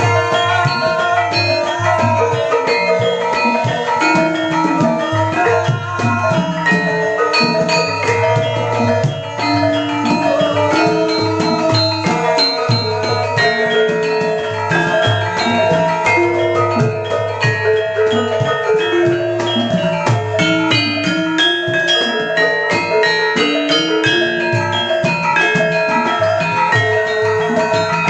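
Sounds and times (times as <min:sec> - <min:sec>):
gamelan ensemble playing: 0:00.0 - 0:28.0.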